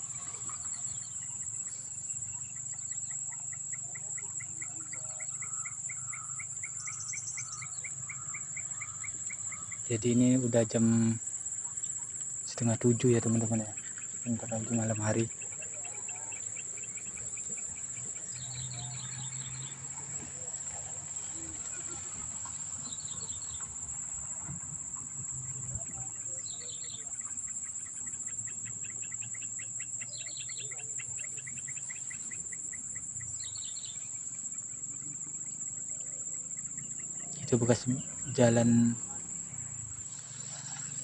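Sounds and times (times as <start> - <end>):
insect chirping phrases: 0.0 - 41.0
insect shrill trill: 0.0 - 41.0.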